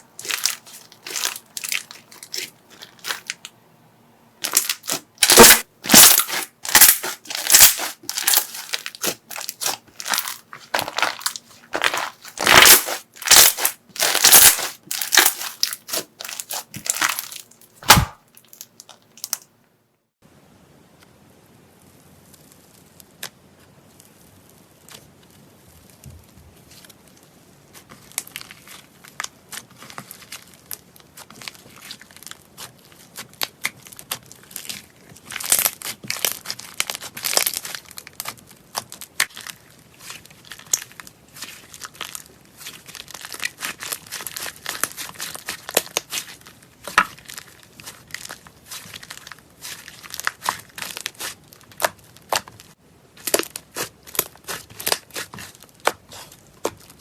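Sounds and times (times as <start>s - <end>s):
crunchy slime crackling: 0.0s - 3.5s, 4.4s - 19.4s, 26.8s - 57.0s.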